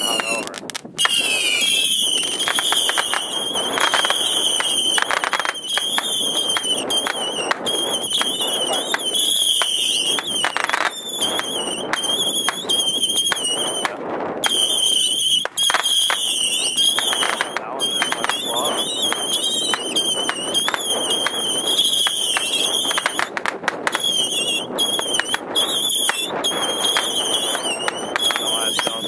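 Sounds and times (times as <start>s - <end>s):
firework crackling pops: 0.0s - 29.0s
firework whistle: 0.0s - 29.0s.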